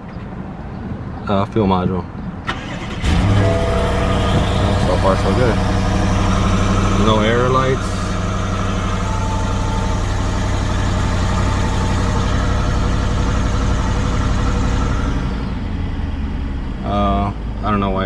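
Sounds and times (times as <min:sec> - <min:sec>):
car engine idling: 0:02.4 - 0:18.0.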